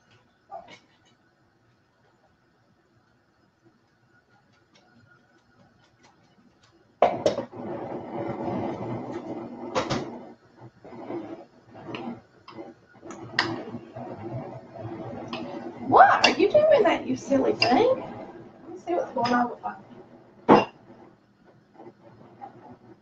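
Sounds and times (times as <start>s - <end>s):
gas burner flame sputtering: 4.1s - 23.0s.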